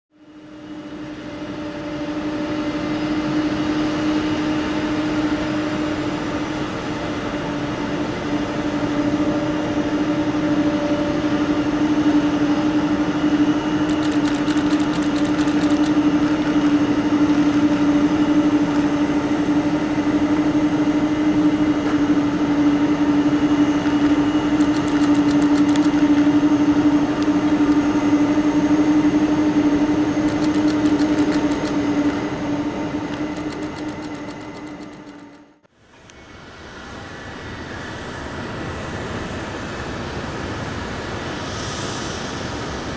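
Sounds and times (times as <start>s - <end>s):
jet engines droning: 0.2s - 42.9s.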